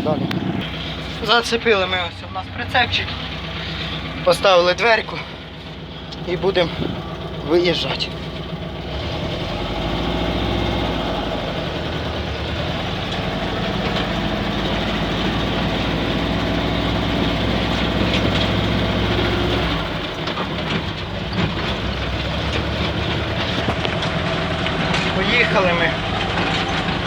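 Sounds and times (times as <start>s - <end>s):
engine running under load: 0.0s - 27.0s.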